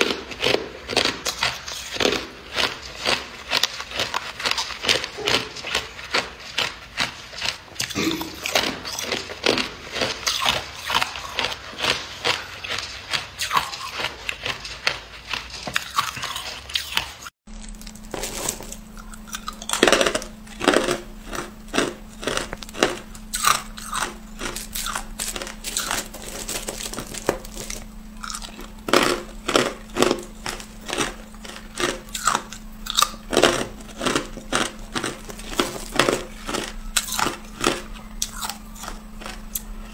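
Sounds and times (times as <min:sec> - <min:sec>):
steady low hum: 0:00.0 - 0:15.6, 0:17.5 - 0:39.9
ice being chewed: 0:00.0 - 0:39.9.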